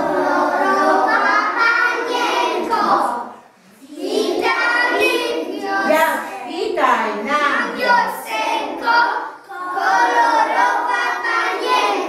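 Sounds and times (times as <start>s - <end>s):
children singing together: 0.0s - 6.4s, 7.5s - 12.0s.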